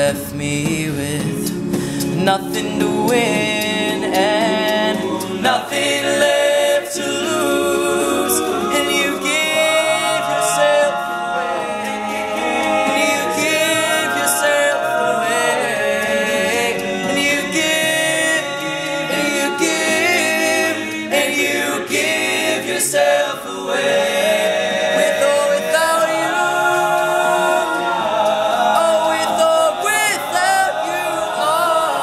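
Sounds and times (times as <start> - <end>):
male backing harmonies: 0.0 - 32.0.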